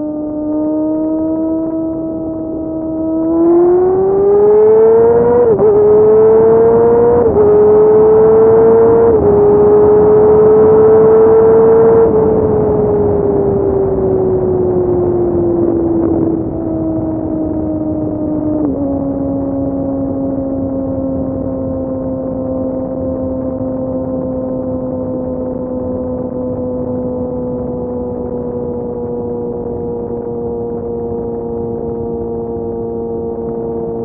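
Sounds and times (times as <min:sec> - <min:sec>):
motorcycle engine running loud: 0:00.0 - 0:34.0.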